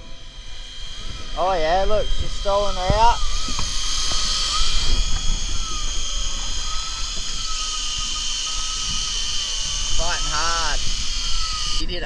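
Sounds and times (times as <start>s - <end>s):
fishing reel motor whining: 0.0s - 12.0s.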